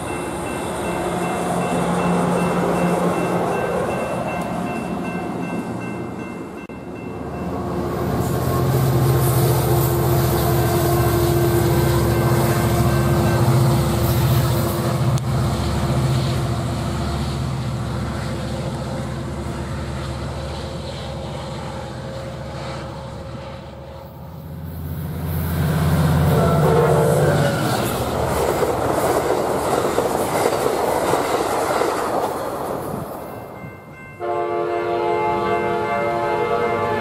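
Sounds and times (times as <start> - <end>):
steady engine whine: 0.0 - 33.9
diesel locomotive engine passing: 0.0 - 37.0.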